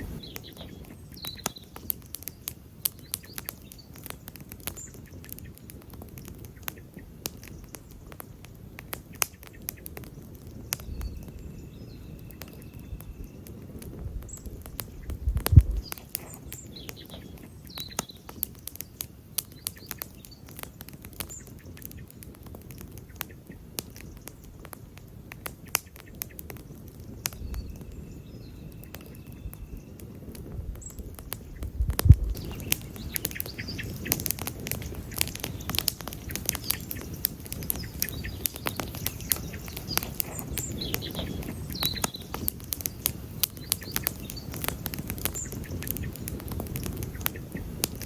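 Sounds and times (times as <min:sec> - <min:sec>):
wood campfire crackling: 0:00.0 - 0:48.0.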